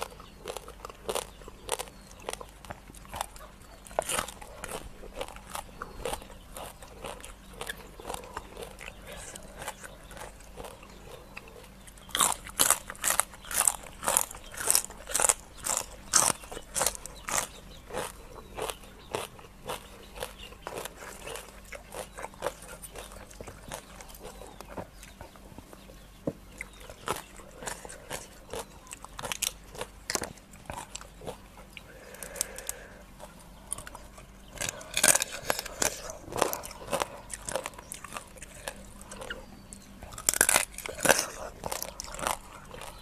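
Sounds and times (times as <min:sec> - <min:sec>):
crunching and chewing: 0:00.0 - 0:43.0.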